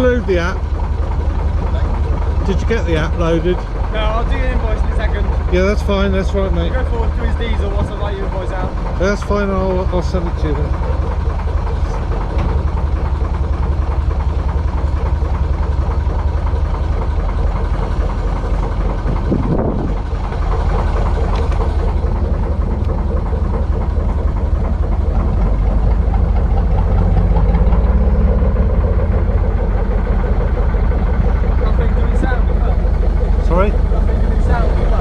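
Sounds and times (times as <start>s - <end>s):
diesel engine thumping: 0.0s - 35.0s.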